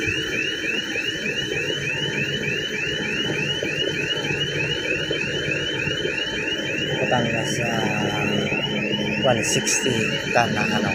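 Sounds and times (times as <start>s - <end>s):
crane warning alarm chirps: 0.0s - 10.9s.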